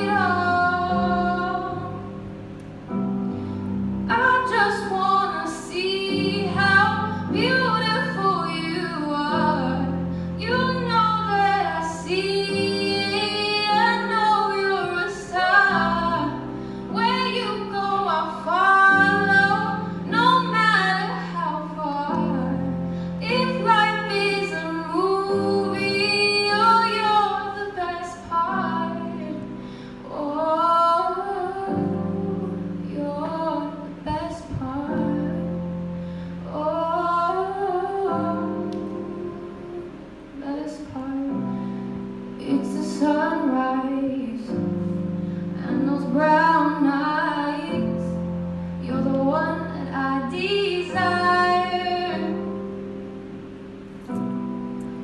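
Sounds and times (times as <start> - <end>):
woman singing into microphone: 0.0 - 2.2, 4.1 - 52.6
held chords accompaniment: 0.0 - 55.0.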